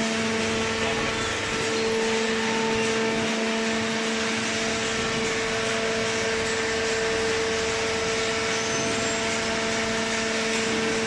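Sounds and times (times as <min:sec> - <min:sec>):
hydraulic pump motor humming: 0:00.0 - 0:11.0.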